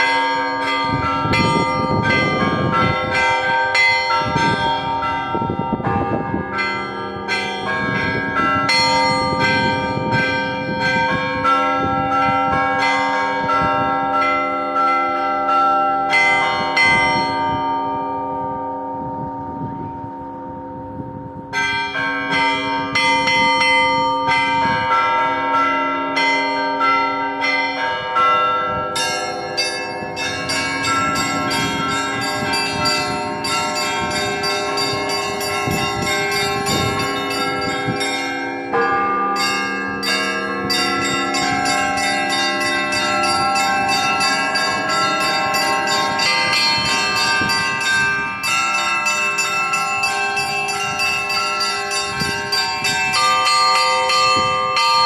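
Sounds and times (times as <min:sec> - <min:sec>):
small high bells striking: 0:00.0 - 0:18.0, 0:21.5 - 0:55.0
deep bells ringing: 0:00.0 - 0:55.0.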